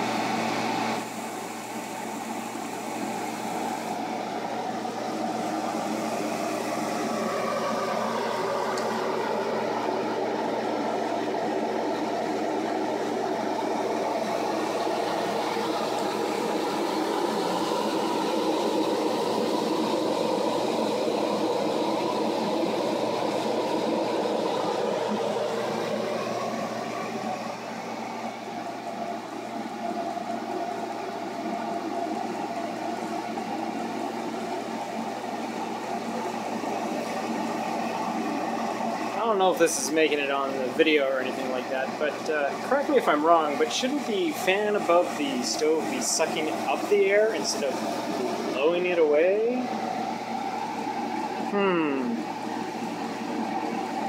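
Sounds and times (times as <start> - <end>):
exhaust fan whirring and humming: 0.0 - 54.0.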